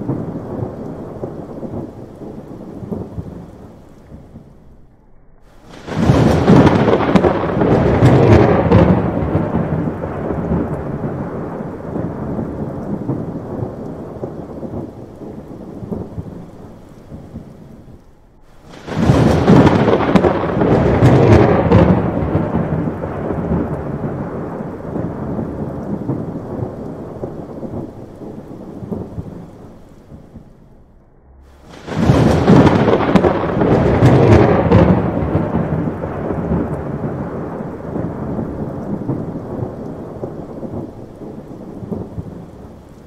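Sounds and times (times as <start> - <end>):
thunderclaps rolling rumble: 0.0 - 43.0.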